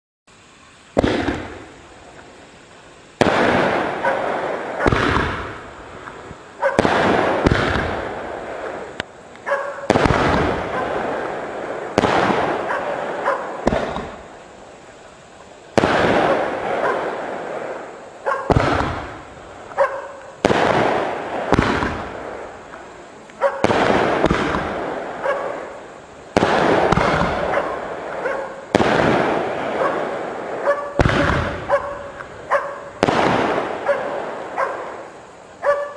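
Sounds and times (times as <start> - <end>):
crackling hiss: 0.3 - 35.9
firework bangs: 0.9 - 35.9.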